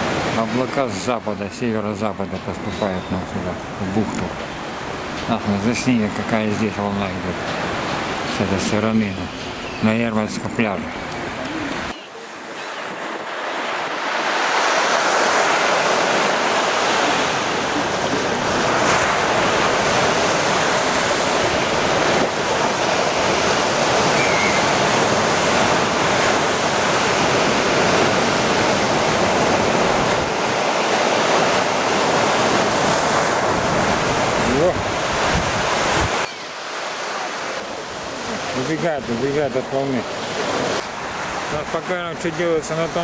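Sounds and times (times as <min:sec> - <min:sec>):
waves breaking on a beach: 0:00.0 - 0:43.0.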